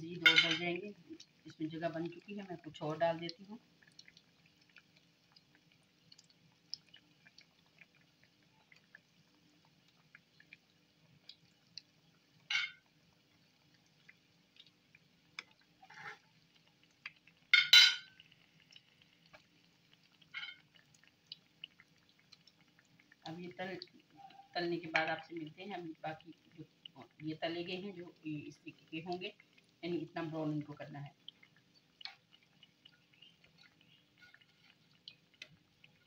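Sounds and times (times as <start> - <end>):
food deep-frying in hot oil: 0.0 - 36.0.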